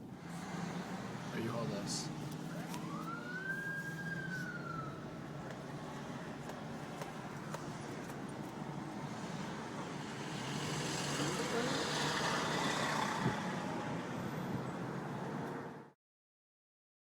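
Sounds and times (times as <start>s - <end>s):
road traffic noise: 0.0s - 16.0s
vehicle passing: 0.1s - 15.9s.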